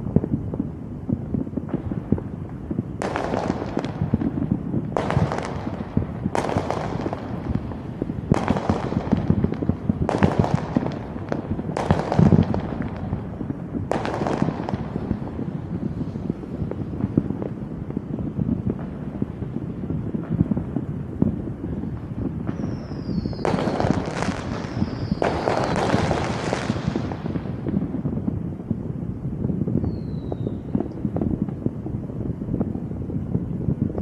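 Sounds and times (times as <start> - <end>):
fireworks bangs with crackle: 0.0 - 34.0.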